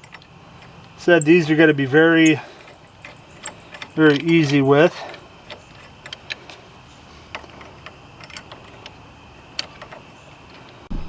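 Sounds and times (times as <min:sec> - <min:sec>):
metallic clicks of lug nuts: 0:00.0 - 0:10.9.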